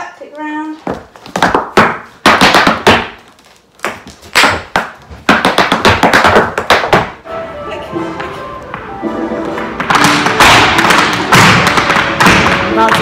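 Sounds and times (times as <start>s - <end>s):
heeled shoes tapping on hard floor: 0.8s - 7.2s, 8.2s - 13.0s.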